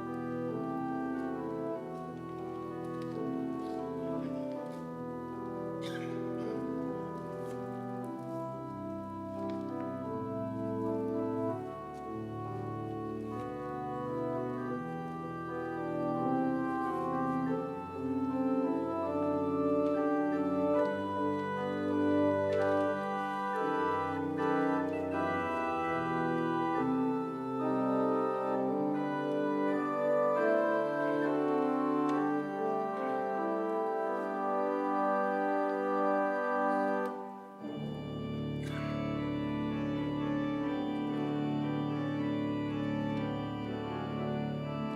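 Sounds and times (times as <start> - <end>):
organ playing sustained chords: 0.0 - 44.9.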